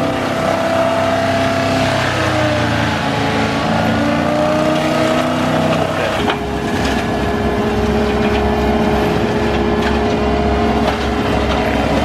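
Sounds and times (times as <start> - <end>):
forestry mulcher droning: 0.0 - 12.0.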